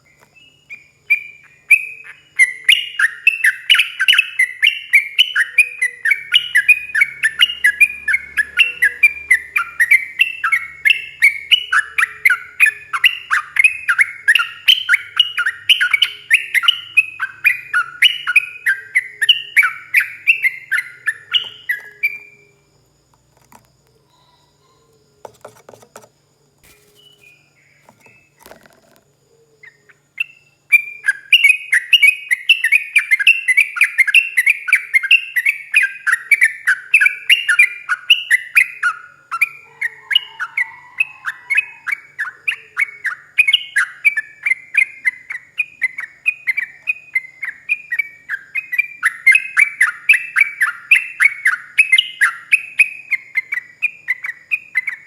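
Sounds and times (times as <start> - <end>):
bird singing rapid chirps: 0.0 - 22.6, 29.3 - 55.0.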